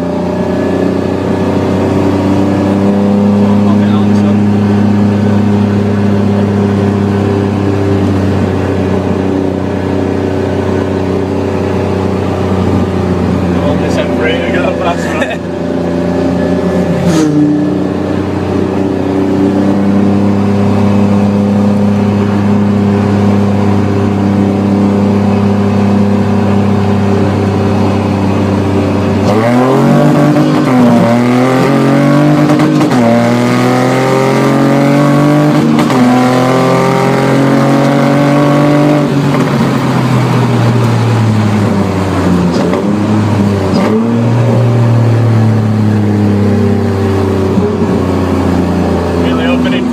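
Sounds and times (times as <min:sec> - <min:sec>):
car engine running and revving: 0:00.0 - 0:49.9.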